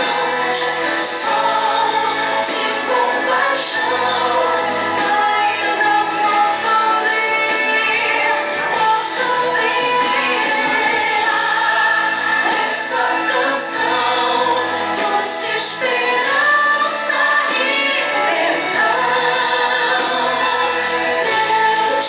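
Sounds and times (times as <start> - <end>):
voices singing together: 0.0 - 22.0.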